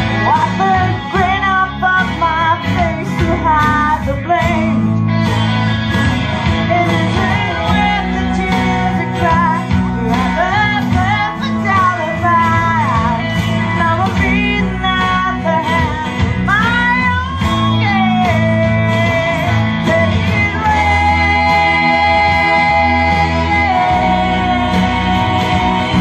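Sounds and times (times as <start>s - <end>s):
woman singing: 0.0s - 5.0s, 6.6s - 26.0s
guitar accompaniment: 0.0s - 26.0s.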